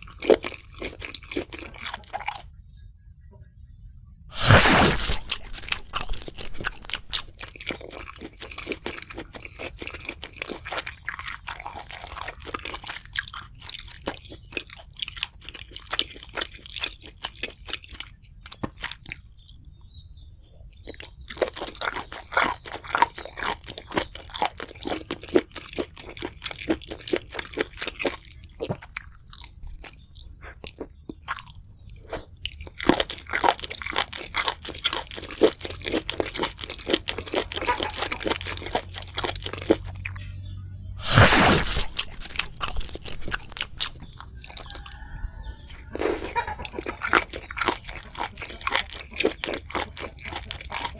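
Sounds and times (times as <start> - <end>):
person chewing crispy food: 0.0 - 2.6, 4.3 - 50.9.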